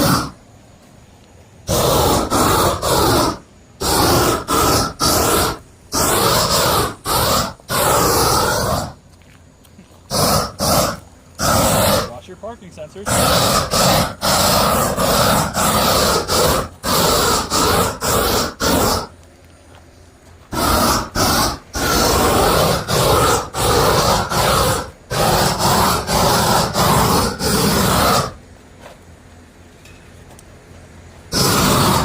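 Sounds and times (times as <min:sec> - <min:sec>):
propane torch flame blowing: 0:00.0 - 0:29.2, 0:30.3 - 0:32.0.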